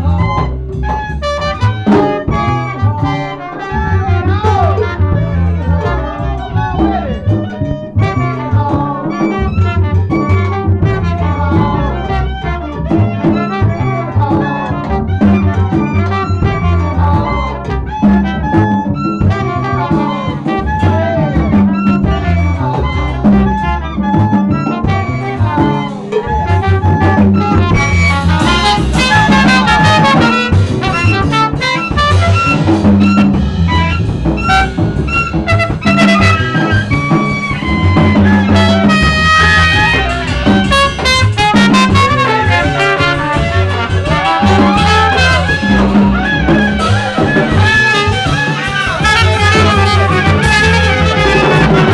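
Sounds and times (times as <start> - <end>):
live jazz band: 0.0 - 51.9.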